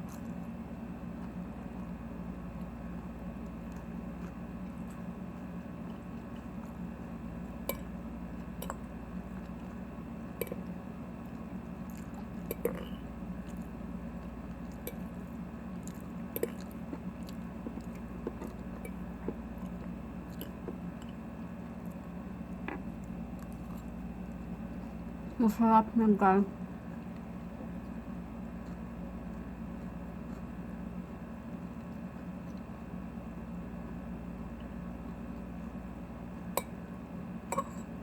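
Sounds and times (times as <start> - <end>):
chewing crunchy salad: 0.0 - 25.6, 26.6 - 38.0.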